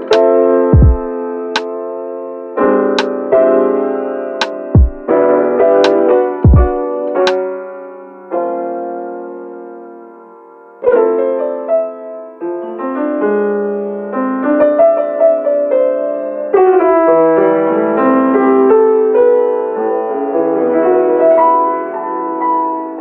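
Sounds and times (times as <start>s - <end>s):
mellow piano chords: 0.0s - 23.0s.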